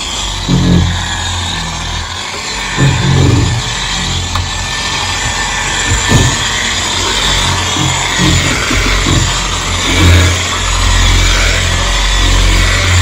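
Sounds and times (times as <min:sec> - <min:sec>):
polisher motor drone: 0:00.0 - 0:13.0.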